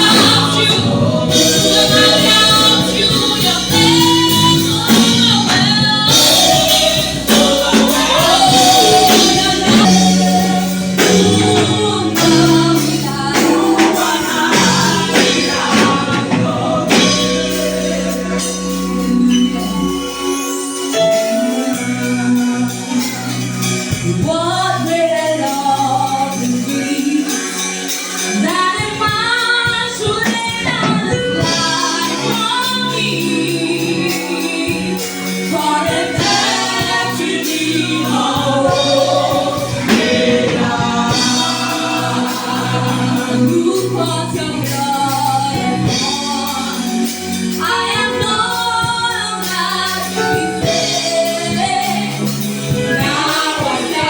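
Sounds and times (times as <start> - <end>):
gospel choir singing: 0.0 - 54.0
instrumental accompaniment with beat: 0.0 - 54.0.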